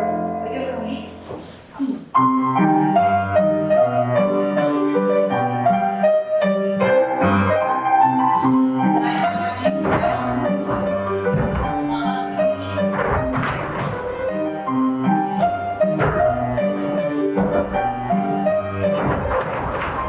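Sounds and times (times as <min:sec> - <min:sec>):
piano playing a tune: 0:00.0 - 0:20.0.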